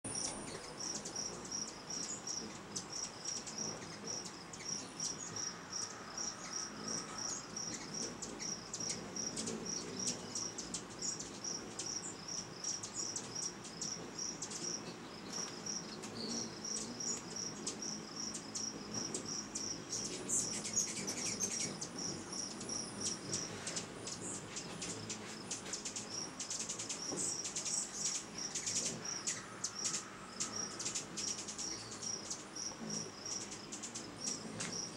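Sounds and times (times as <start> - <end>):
high ticks and twitters: 0.1 - 34.9
insect chirping: 0.1 - 34.9.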